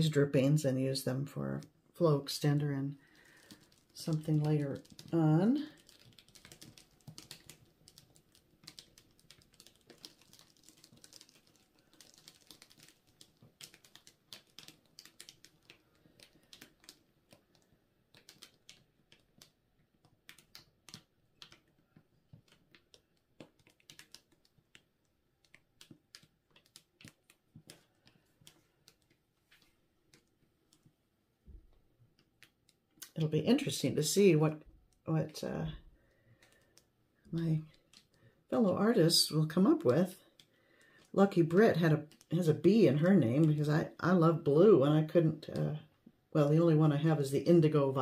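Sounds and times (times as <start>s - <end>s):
paint dripping onto plastic: 1.6s - 33.5s, 34.1s - 44.0s.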